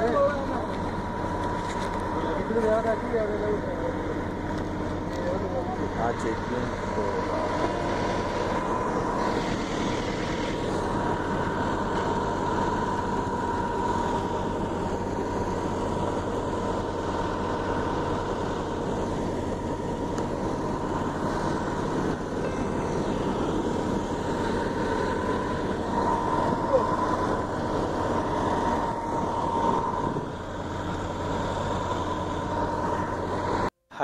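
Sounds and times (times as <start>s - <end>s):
machine noise with high whine: 0.0s - 34.0s.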